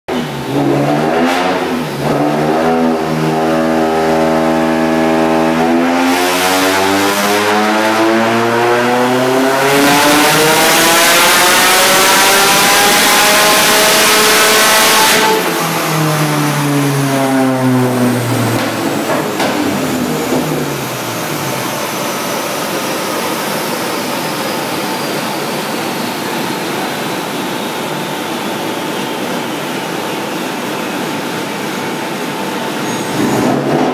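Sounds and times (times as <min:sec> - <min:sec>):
turbocharged car engine revving: 0:00.1 - 0:33.9.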